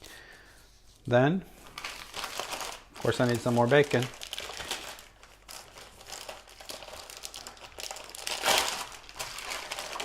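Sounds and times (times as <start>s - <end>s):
plastic packaging crinkling: 1.6s - 10.0s.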